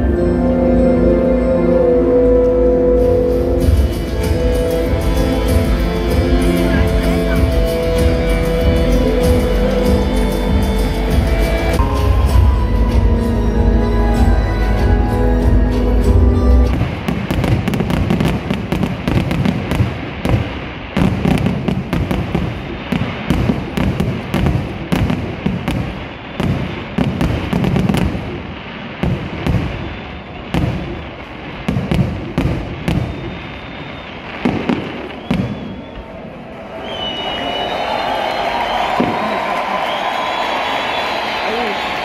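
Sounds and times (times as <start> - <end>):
fireworks bangs and crackles: 3.6 - 13.0, 16.6 - 42.0.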